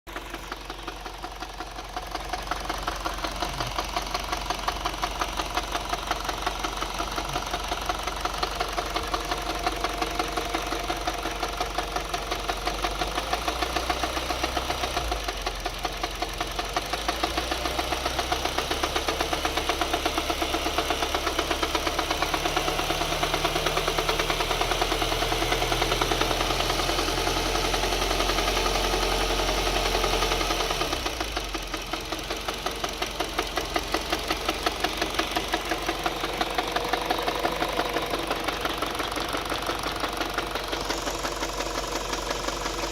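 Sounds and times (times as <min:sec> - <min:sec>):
car engine knocking: 0:00.1 - 0:42.9.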